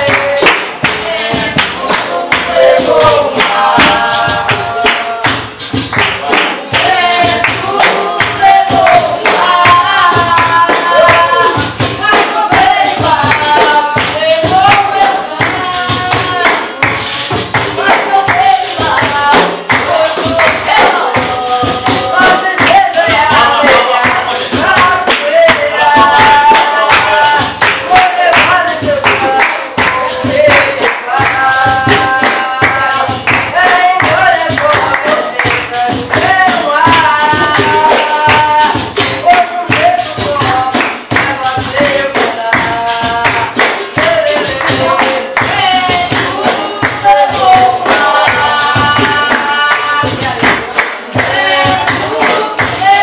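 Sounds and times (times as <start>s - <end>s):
group singing: 0.0s - 53.0s
hand clapping: 0.0s - 53.0s
percussion and drum music: 0.0s - 53.0s.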